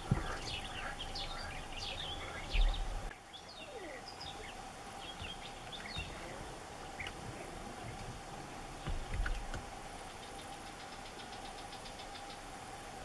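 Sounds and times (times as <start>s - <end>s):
birds calling and chattering: 0.0s - 13.0s.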